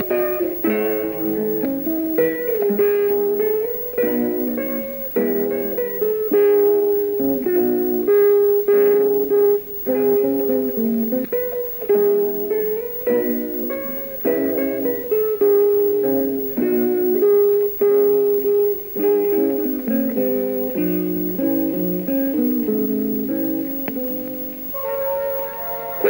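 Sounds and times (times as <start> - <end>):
guitar plucked notes and chords: 0.0 - 26.0.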